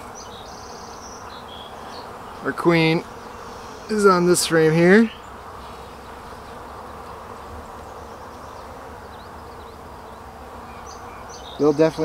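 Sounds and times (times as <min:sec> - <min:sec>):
honey bees humming: 0:00.0 - 0:12.0.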